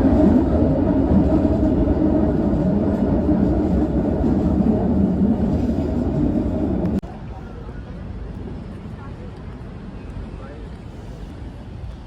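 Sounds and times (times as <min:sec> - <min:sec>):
underground train rumbling: 0:00.0 - 0:12.0.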